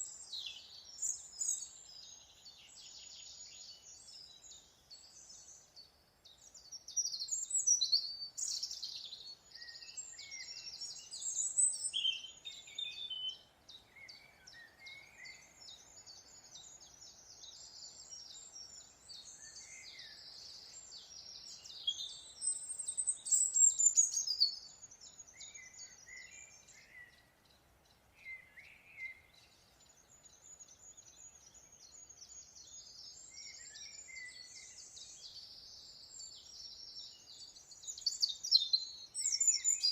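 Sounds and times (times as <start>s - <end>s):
songbirds chirping trills: 0.0s - 39.9s.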